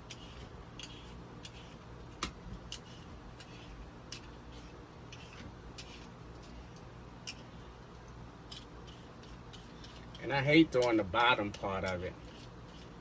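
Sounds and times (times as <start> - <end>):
peeler scraping potato skin: 0.0 - 6.6, 8.5 - 13.0.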